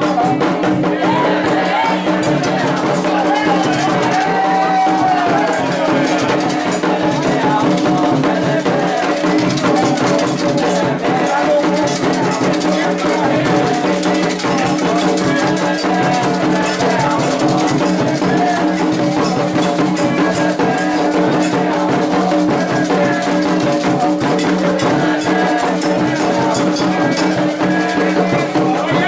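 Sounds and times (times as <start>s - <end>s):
drums: 0.0s - 29.0s
shaken rattle: 0.0s - 29.0s.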